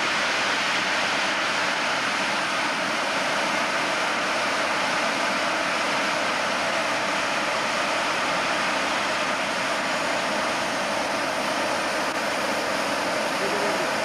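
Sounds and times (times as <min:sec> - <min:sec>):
faint high turbine whine: 0:00.0 - 0:14.0
jet turbine exhaust rush: 0:00.0 - 0:14.0.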